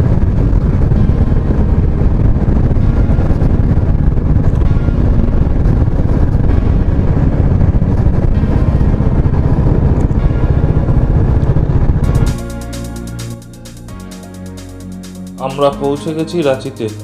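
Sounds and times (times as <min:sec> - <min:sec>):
wind rumble on microphone: 0:00.0 - 0:13.9.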